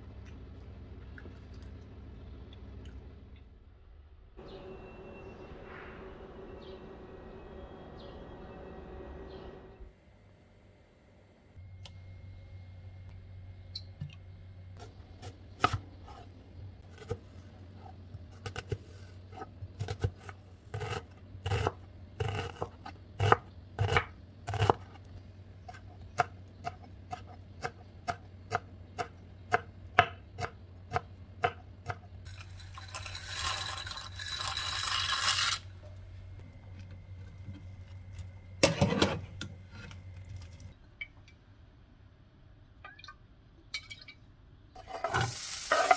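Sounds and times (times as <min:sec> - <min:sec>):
steady low hum: 0:00.0 - 0:33.0, 0:35.6 - 0:42.8.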